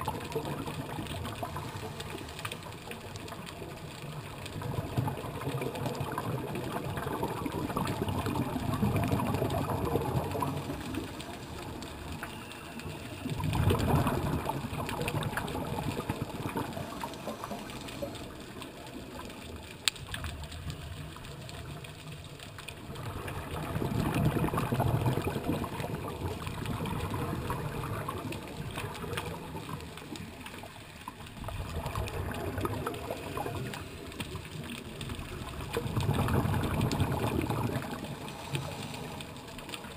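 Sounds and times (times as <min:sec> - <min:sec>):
muffled exhaled bubbles underwater: 0:00.0 - 0:39.9.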